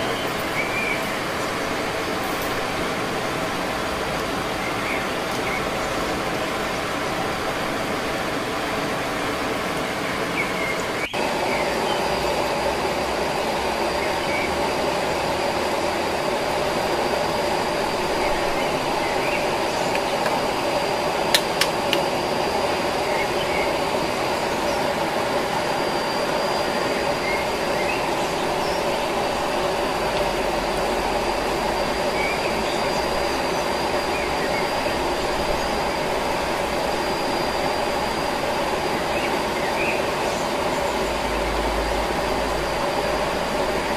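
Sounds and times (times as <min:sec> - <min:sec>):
thin high whine: 0:00.0 - 0:43.9.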